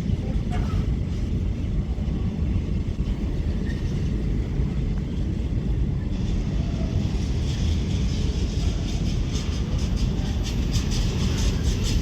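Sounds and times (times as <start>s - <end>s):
freight train wagons rumbling: 0.0s - 12.0s.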